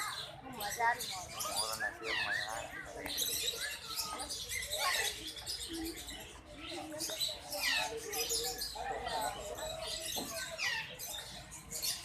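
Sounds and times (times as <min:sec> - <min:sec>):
murmur of voices: 0:00.0 - 0:12.0
small birds chirping: 0:00.0 - 0:12.0.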